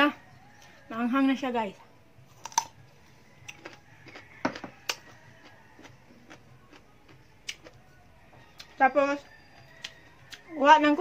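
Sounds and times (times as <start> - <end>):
crunching and chewing fruit: 1.7 - 11.0.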